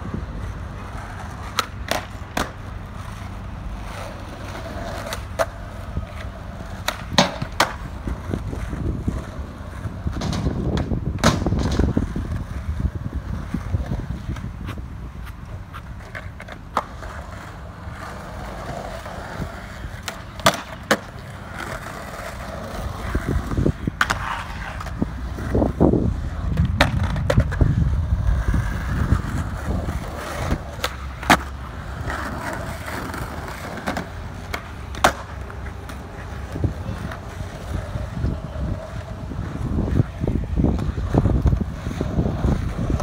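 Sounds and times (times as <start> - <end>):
skateboard clacking on ground: 0.0 - 43.0
skateboard wheels rolling on concrete: 0.0 - 43.0.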